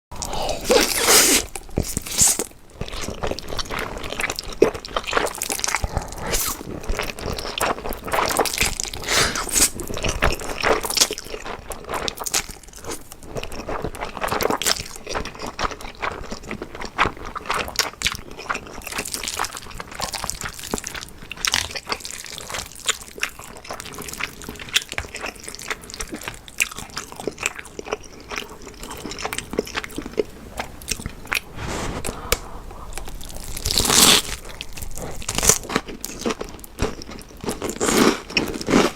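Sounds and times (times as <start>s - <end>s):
slurping and chewing noodles: 0.2s - 38.9s.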